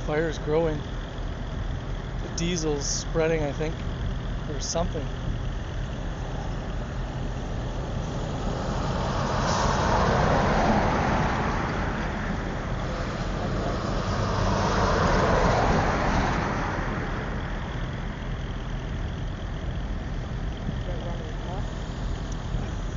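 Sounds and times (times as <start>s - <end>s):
traffic engine rumble: 0.0s - 22.9s
vehicles passing: 0.0s - 22.9s.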